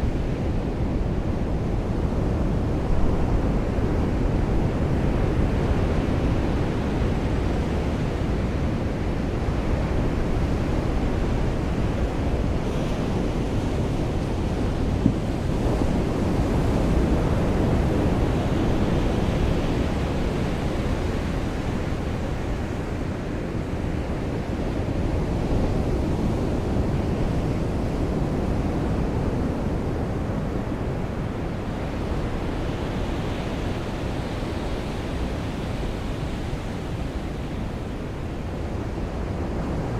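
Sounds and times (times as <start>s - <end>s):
surf washing on a beach: 0.0s - 39.9s.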